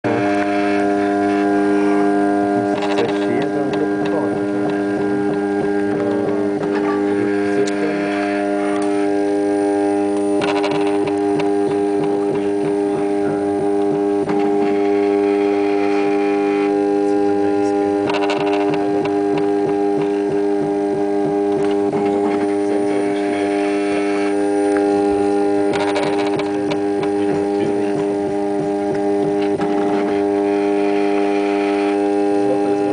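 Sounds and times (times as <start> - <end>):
print head whining: 0.0 - 32.9
printer humming: 0.0 - 32.9.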